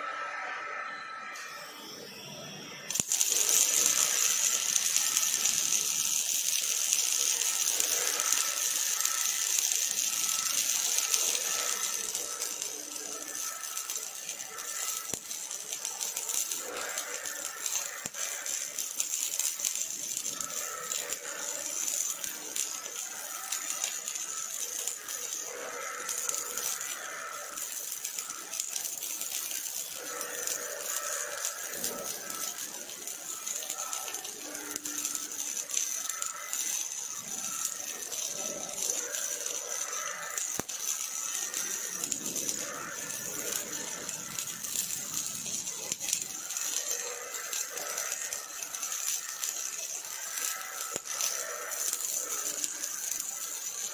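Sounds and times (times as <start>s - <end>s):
welding arc sizzling: 0.0s - 53.9s.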